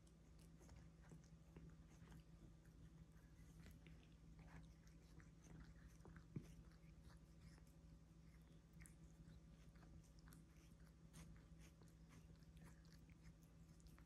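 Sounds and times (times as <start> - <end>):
cat licking fur: 0.0 - 14.0
low steady hum: 0.0 - 14.0.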